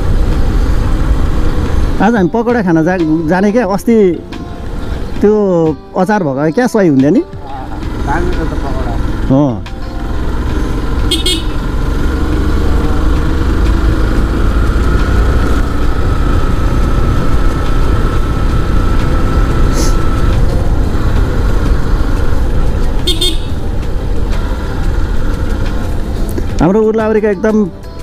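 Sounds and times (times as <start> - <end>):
motorcycle engine running: 0.0 - 5.2, 7.3 - 27.6.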